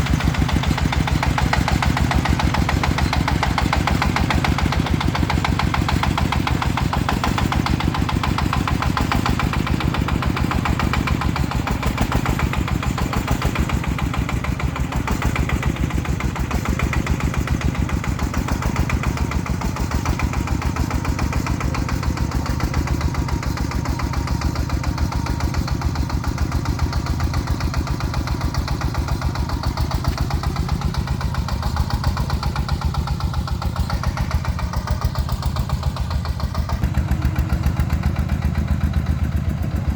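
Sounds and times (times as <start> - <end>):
truck engine chugging: 0.0 - 39.9.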